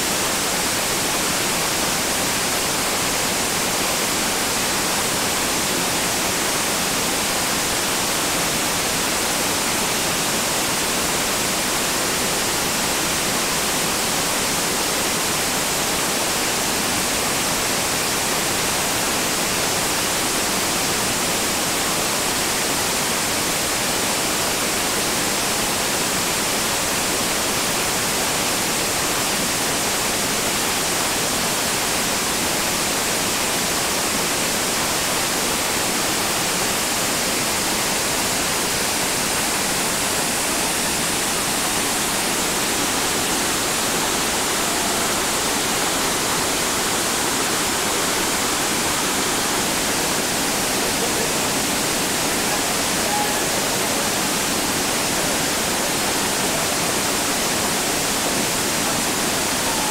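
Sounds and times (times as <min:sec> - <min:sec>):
whitewater pouring over waterfall: 0:00.0 - 0:59.9.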